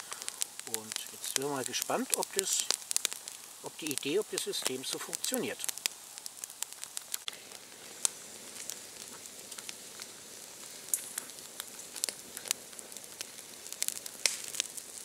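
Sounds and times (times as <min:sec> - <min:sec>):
campfire crackling and popping: 0:00.0 - 0:15.0
meat sizzling on a grill: 0:00.0 - 0:15.0.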